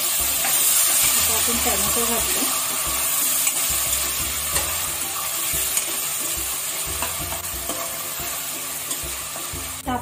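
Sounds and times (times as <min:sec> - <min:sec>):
ladle clicking on pan: 0:00.0 - 0:09.8
vegetables sizzling in hot oil: 0:00.0 - 0:10.0.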